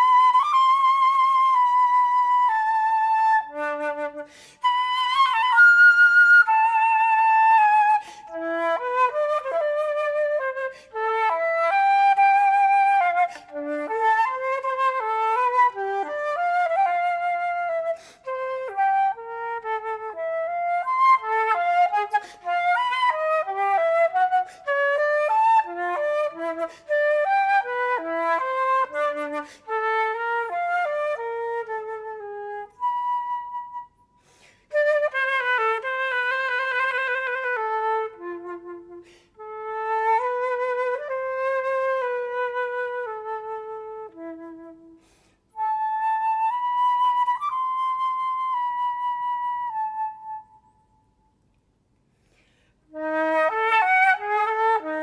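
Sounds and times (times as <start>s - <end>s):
flute playing: 0.0s - 51.4s, 52.8s - 55.0s.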